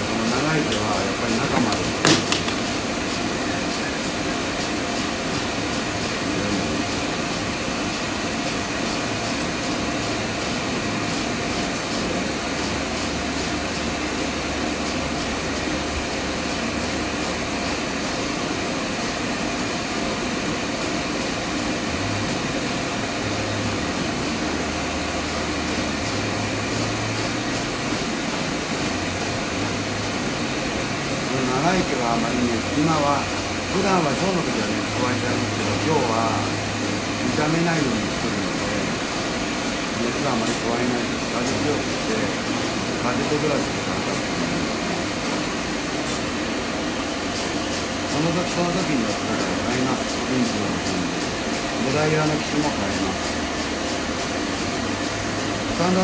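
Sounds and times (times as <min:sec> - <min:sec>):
dog dryer blowing air: 0:00.0 - 0:56.0.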